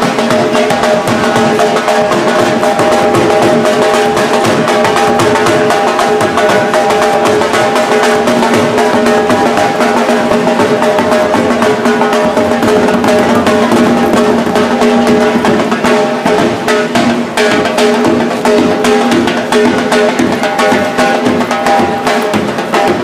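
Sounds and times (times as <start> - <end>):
drum beating fast rhythm: 0.0 - 23.0.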